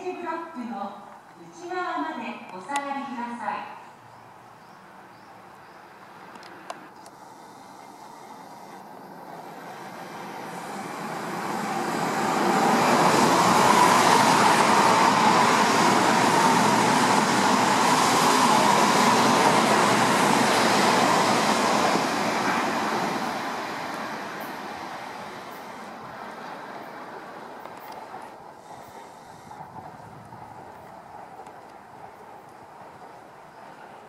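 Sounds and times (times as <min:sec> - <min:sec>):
electric train passing: 0:03.9 - 0:34.0.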